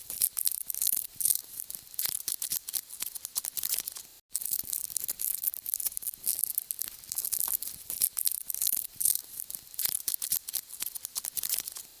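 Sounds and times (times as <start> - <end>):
insects crawling and chewing: 0.0 - 12.0.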